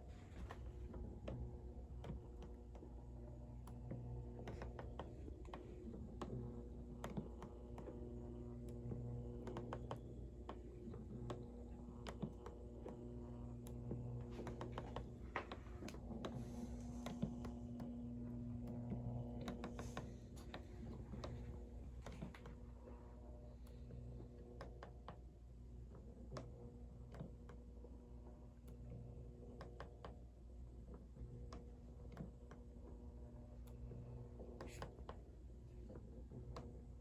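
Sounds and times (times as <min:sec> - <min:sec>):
electric motor humming: 0:00.0 - 0:30.6.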